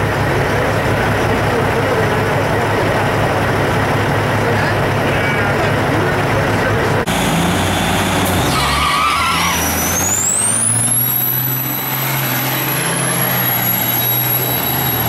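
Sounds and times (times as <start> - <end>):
diesel trucks at full throttle: 0.0 - 15.0.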